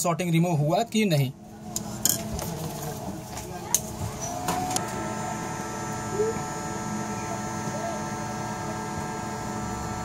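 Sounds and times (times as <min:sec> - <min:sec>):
hot air rework station blowing: 0:01.7 - 0:10.0.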